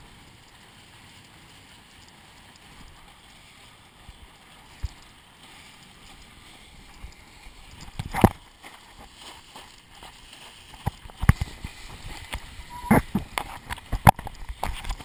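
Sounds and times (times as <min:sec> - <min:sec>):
rush of water and wind: 0:00.0 - 0:15.0
water splash: 0:00.0 - 0:15.0.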